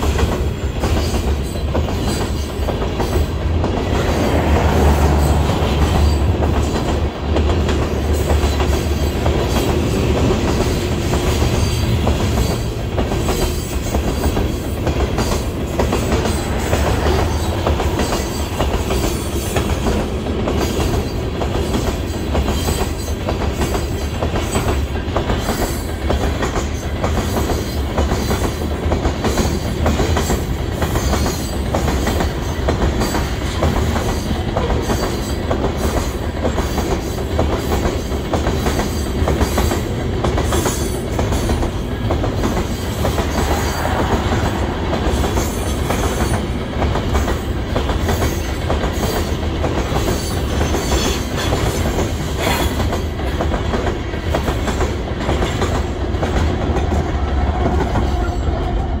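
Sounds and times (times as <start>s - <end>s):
diesel locomotive engine hum: 0.0s - 59.0s
freight train rumbling past: 0.0s - 59.0s.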